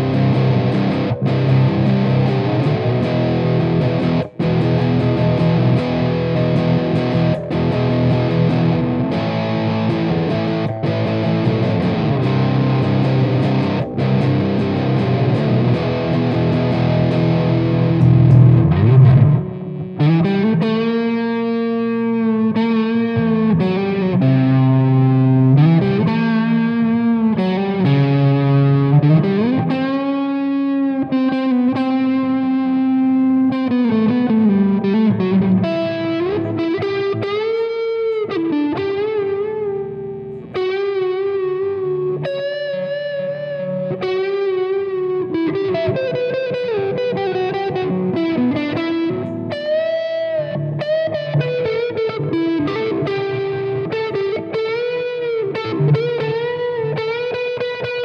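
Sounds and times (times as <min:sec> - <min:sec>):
distorted electric guitar: 0:00.0 - 0:58.0.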